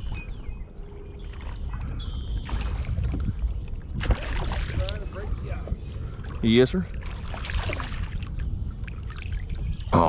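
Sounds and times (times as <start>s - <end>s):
water and wind rumble: 0.0s - 10.0s.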